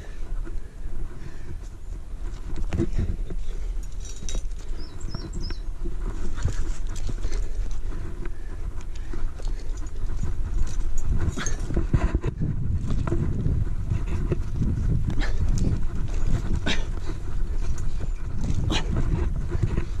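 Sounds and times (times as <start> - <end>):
climber breathing: 0.0 - 20.0
wind rumble on microphone: 0.0 - 20.0.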